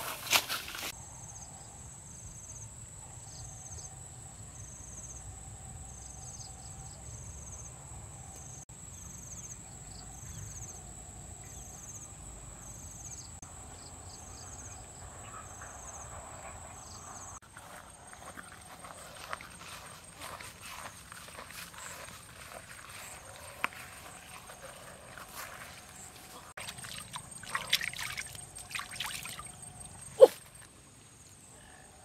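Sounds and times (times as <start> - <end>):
insects chirping: 3.3 - 16.1, 16.8 - 31.9.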